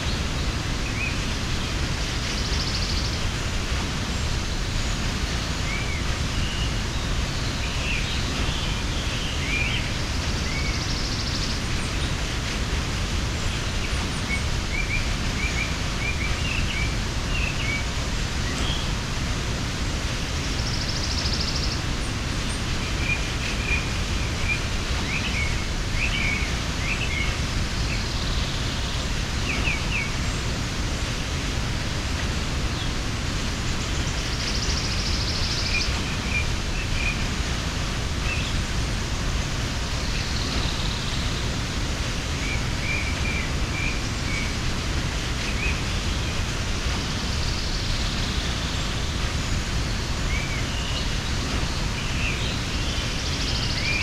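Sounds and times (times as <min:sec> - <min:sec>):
birds chirping: 0:00.0 - 0:54.0
waterfall rushing: 0:00.0 - 0:54.0.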